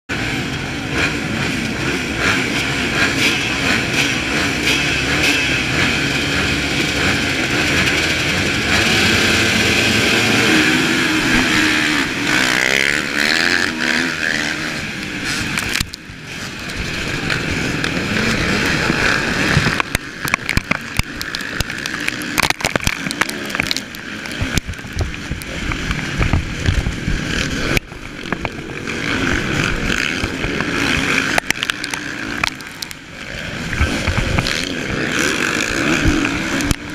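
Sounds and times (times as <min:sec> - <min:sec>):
motocross bike engine revving: 0:00.1 - 0:36.9
other dirt bikes: 0:00.1 - 0:36.9.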